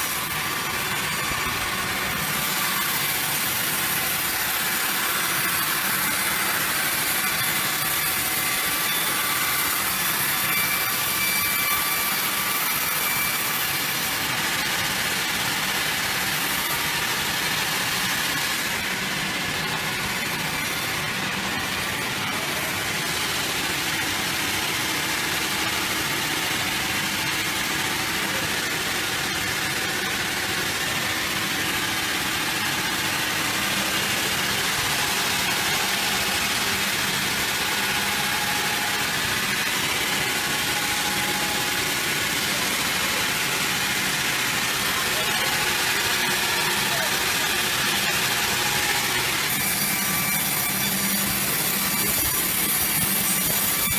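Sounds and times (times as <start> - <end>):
sawmill machinery running: 0.0 - 53.9.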